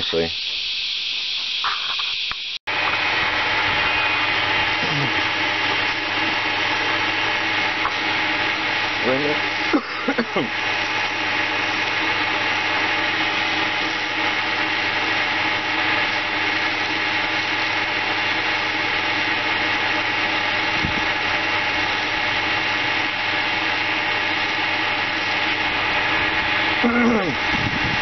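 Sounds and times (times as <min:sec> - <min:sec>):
lathe motor humming: 0:00.0 - 0:28.0.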